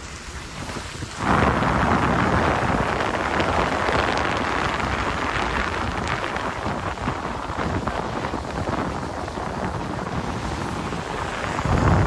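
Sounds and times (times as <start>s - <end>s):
car tyres hissing on wet road: 0.0s - 12.0s
low car rumble: 0.0s - 12.0s.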